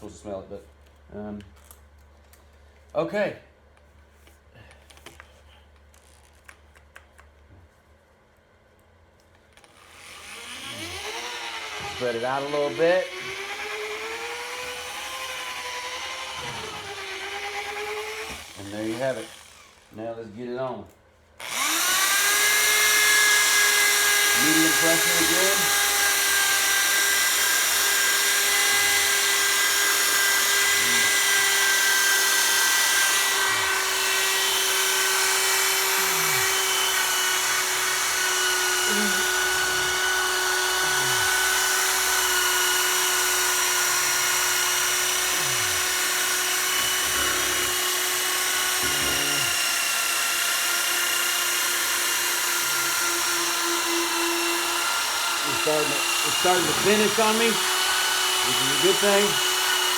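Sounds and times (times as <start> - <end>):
electric polisher motor whine: 9.8 - 19.8, 21.4 - 59.9.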